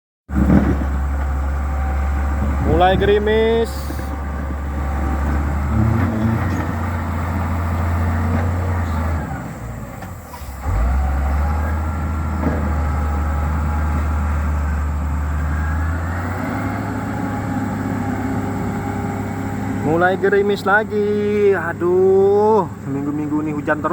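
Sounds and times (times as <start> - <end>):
diesel engine droning: 0.3 - 23.9.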